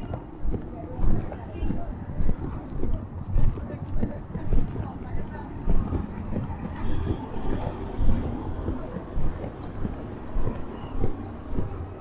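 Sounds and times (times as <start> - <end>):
auto-rickshaw engine running: 0.0 - 12.0
low traffic rumble: 0.0 - 12.0
walking footsteps: 0.0 - 12.0.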